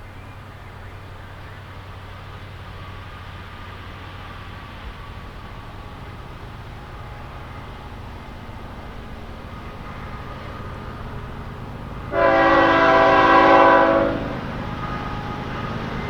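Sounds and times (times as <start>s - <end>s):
train rumble: 0.0s - 16.0s
diesel locomotive horn blast: 2.7s - 16.0s.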